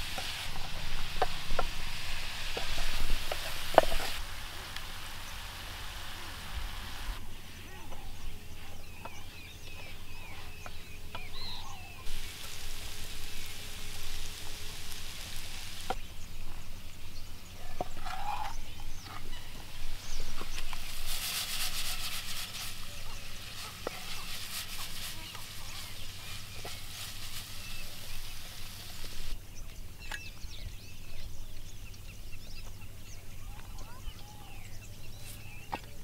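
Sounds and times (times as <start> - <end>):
steady hiss: 0.0 - 29.5
birds calling: 0.0 - 36.0.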